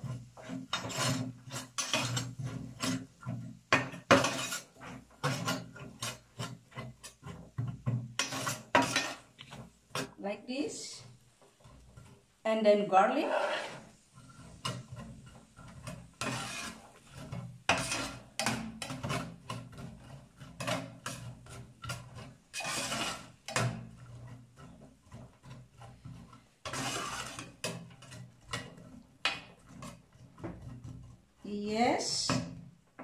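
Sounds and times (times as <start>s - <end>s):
spatula scraping skillet: 0.0s - 33.0s.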